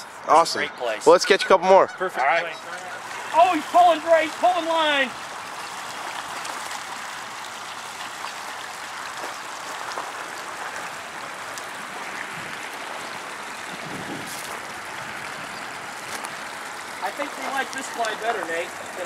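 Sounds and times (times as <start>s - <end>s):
water splashing from thrashing fish: 2.7s - 19.0s.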